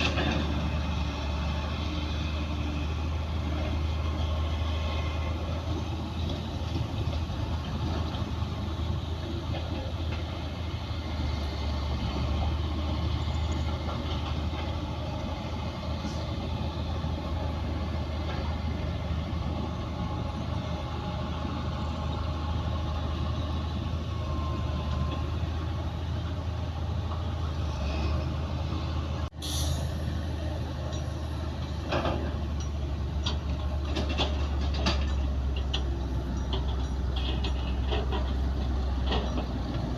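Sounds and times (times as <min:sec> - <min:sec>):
diesel earthmoving machine droning: 0:00.0 - 0:39.9.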